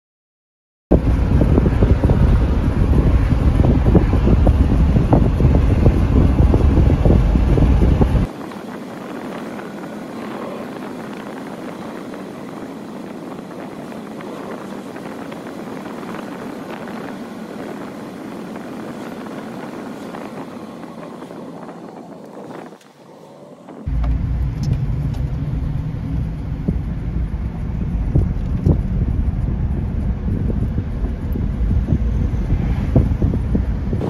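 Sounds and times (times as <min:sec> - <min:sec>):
steady rushing noise: 0:00.9 - 0:34.0
wind buffeting microphone: 0:00.9 - 0:34.0.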